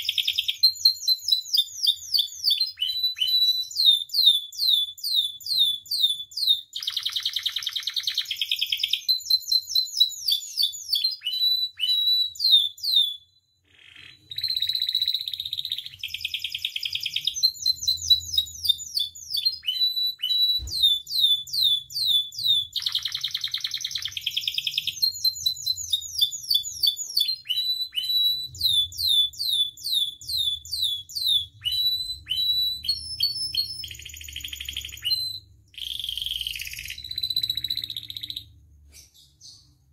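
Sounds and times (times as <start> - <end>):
canary singing whistles and trills: 0.0 - 39.9.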